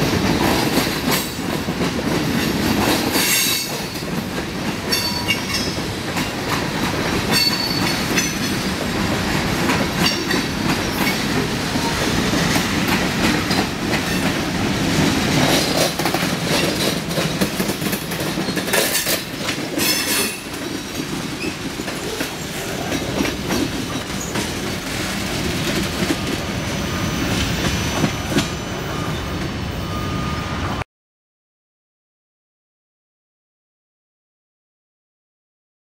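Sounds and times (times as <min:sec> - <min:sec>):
clickety-clack over rail joints: 0:00.0 - 0:29.6
freight train rolling past: 0:00.0 - 0:30.8.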